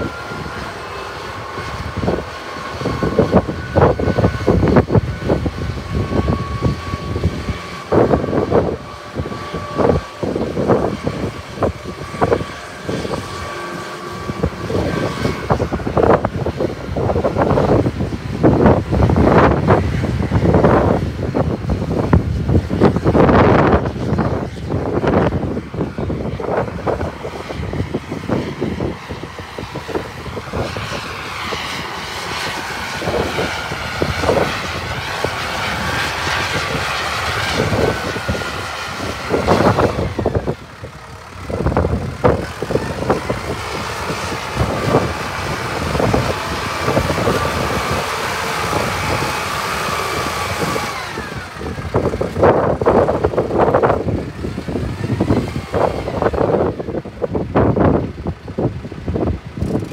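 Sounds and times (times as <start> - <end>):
tractor diesel engine running: 0.0 - 59.9
wind rumbling on microphone: 0.0 - 59.9.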